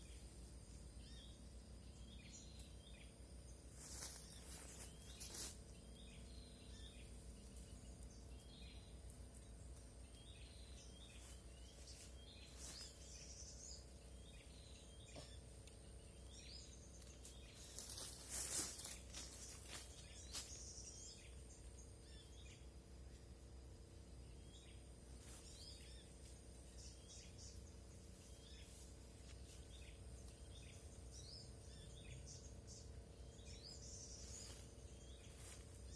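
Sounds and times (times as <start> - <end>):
high insect drone: 0.0 - 35.9
small birds chirping: 0.0 - 35.9.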